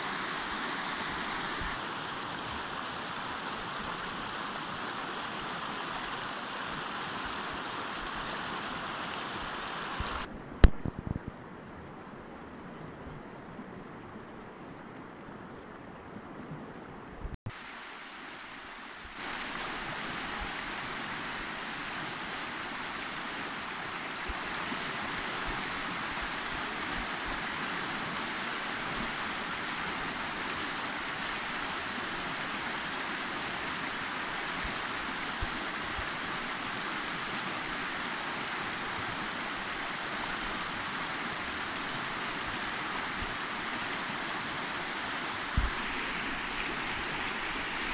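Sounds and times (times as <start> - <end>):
river rushing over rocks: 0.0 - 10.3, 17.5 - 47.9.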